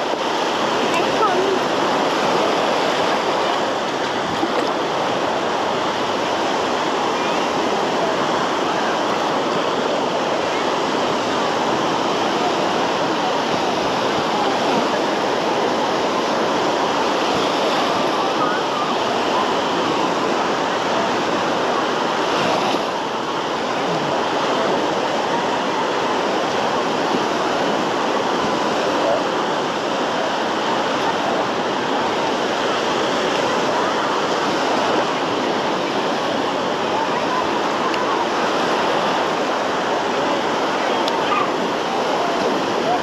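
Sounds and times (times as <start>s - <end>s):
faint crowd voices: 0.0s - 43.0s
waves washing onto shore: 0.0s - 43.0s.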